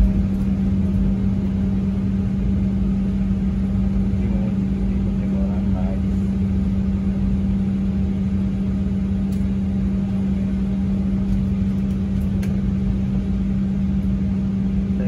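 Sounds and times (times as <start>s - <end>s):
vehicle running rumble and hum: 0.0s - 15.0s.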